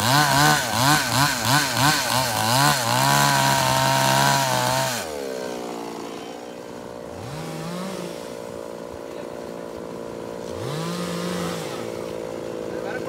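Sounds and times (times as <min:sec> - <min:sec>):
chainsaw idling: 0:00.0 - 0:13.0
chainsaw throttle blips: 0:00.0 - 0:13.0.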